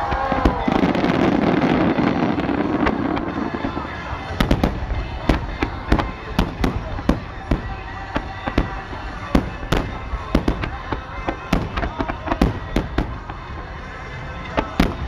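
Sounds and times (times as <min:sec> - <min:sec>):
fireworks launching and bursting: 0:00.0 - 0:15.0
steady rumble: 0:00.0 - 0:15.0.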